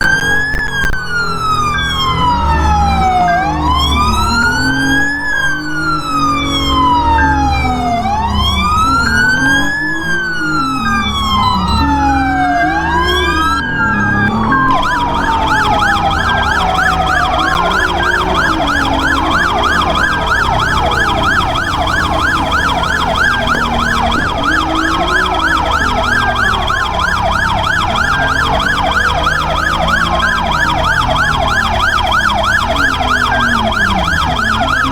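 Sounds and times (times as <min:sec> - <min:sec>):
police siren wailing and yelping: 0:00.0 - 0:34.9
second siren sweeping: 0:00.0 - 0:34.9.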